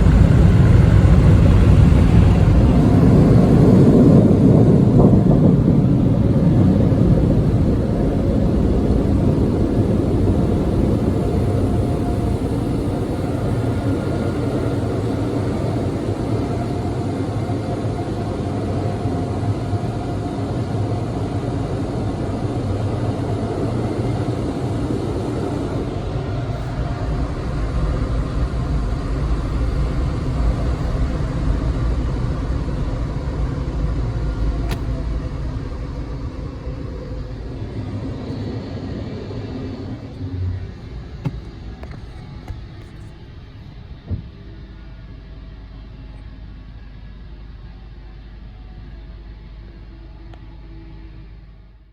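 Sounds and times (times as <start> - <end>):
road noise: 0.0 - 44.8
car engine rumble: 0.0 - 49.0.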